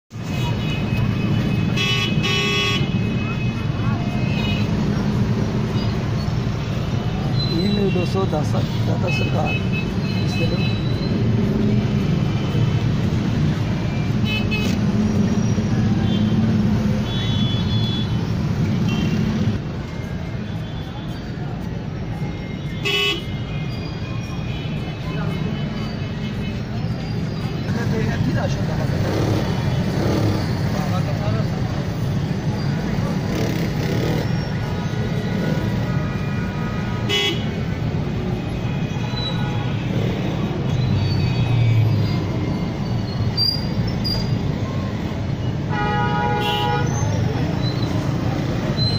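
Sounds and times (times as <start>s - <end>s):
road traffic engines: 0.1s - 48.9s.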